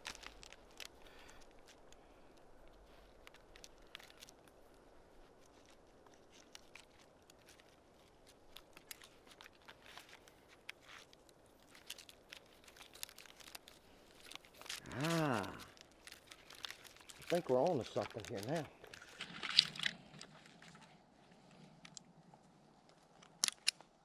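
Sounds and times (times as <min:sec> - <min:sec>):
faint rustling: 0:00.0 - 0:24.0
low steady hiss: 0:00.0 - 0:24.0
small clicks and ticks: 0:00.0 - 0:24.0.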